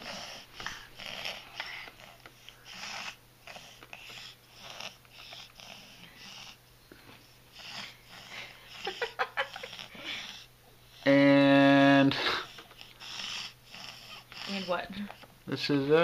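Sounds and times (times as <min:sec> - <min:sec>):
baby breathing: 0:00.0 - 0:11.2, 0:12.1 - 0:15.4.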